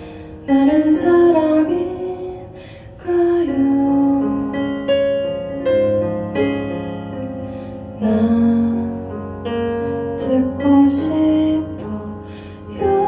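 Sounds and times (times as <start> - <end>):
sustained piano chords: 0.0 - 13.0.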